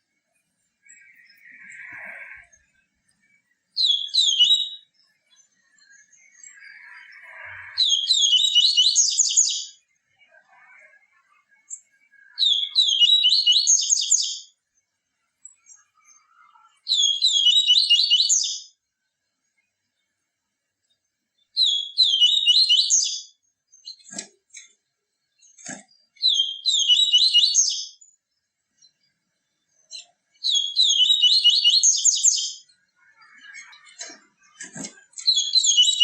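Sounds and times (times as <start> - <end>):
seedeater bird singing: 0.8 - 18.8, 21.3 - 28.2, 28.8 - 36.0.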